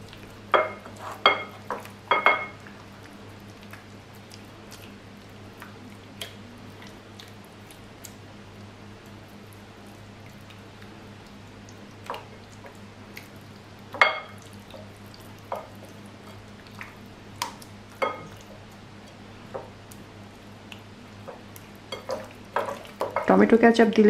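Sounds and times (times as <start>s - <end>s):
hand kneading wet marinade: 0.0s - 23.5s
faint steady hum: 0.0s - 24.0s.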